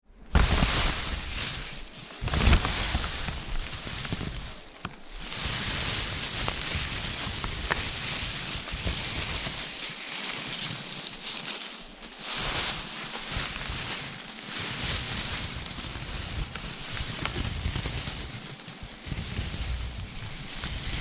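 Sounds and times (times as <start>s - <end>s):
paper confetti rustling: 0.3s - 21.0s.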